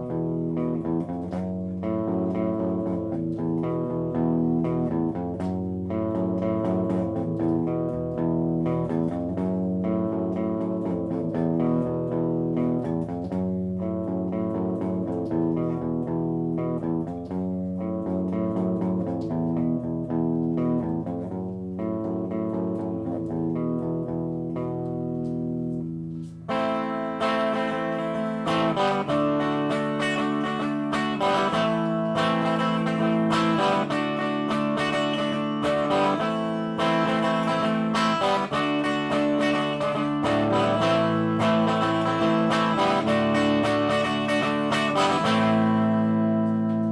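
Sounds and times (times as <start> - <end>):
electric guitar picked notes and chords: 0.0 - 46.9.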